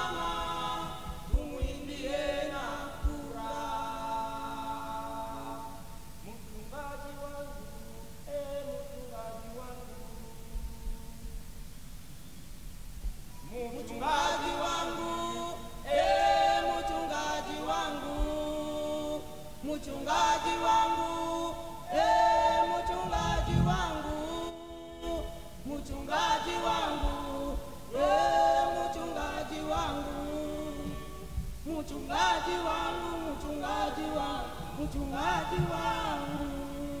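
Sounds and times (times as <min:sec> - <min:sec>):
people singing unaccompanied: 0:00.0 - 0:11.5, 0:13.3 - 0:37.0.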